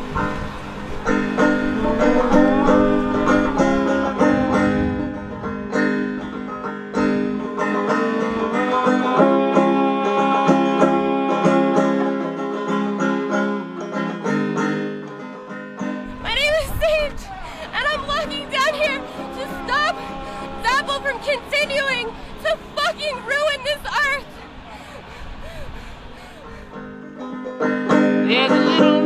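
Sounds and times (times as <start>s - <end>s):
banjo plucked notes: 0.0s - 23.4s, 26.7s - 29.0s.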